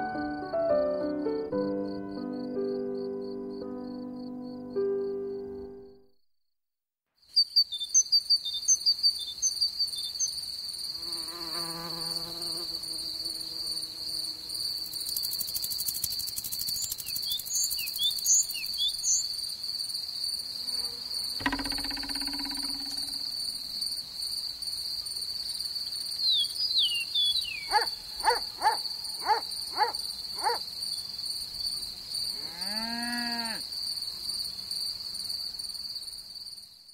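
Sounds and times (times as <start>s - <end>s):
crickets trilling: 7.2s - 36.9s.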